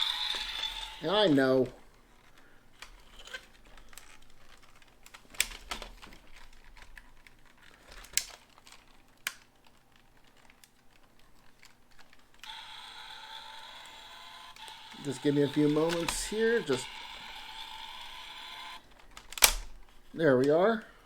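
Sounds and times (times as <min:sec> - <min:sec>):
plastic toy parts clicking: 0:00.0 - 0:01.3, 0:01.9 - 0:20.9.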